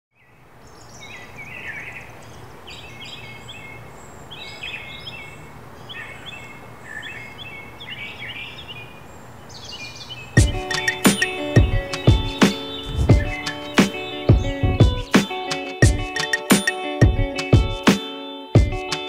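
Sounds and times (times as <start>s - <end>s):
songbirds chirping: 0.1s - 19.0s.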